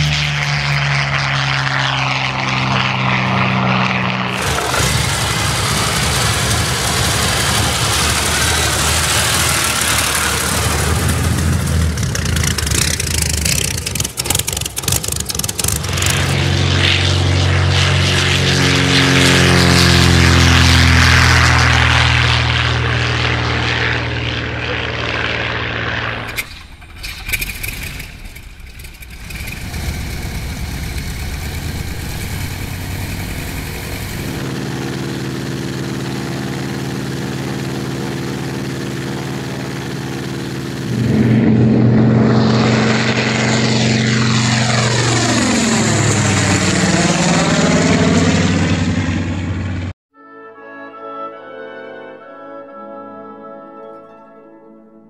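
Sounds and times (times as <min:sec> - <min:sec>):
radial engine running on ground: 0:00.0 - 0:49.9
aircraft engine at full power: 0:00.0 - 0:50.0
plane flying past overhead: 0:00.0 - 0:50.0.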